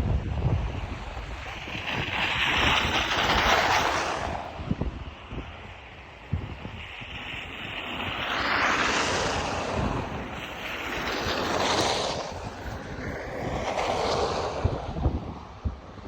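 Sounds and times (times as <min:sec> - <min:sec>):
storm wind gusting: 0:00.0 - 0:16.0
wind buffeting microphone: 0:00.0 - 0:16.0.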